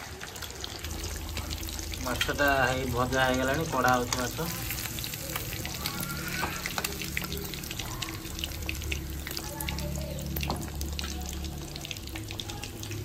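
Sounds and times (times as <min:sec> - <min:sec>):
prawns sizzling in hot oil: 0:00.0 - 0:13.0.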